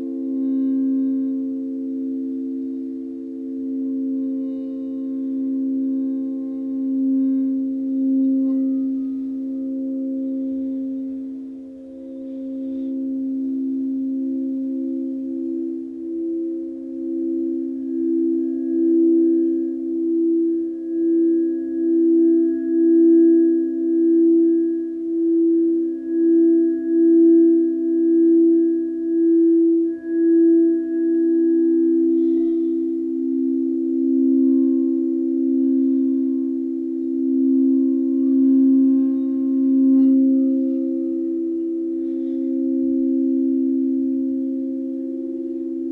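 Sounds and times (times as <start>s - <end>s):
drone of steady pure tones: 0.0s - 45.9s
singing bowls ringing: 0.0s - 45.9s.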